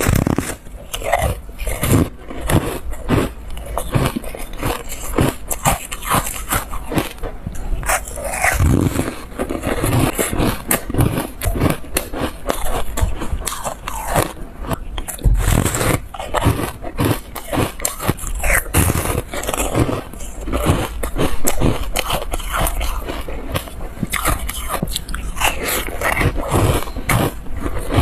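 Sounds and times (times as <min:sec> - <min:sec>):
crunching and chewing: 0:00.0 - 0:28.0.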